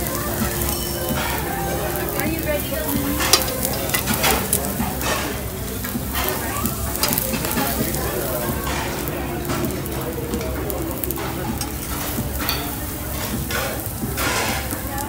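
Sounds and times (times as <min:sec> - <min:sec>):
meat sizzling on a grill: 0:00.0 - 0:15.0
metal tongs clicking on grill: 0:00.0 - 0:15.0.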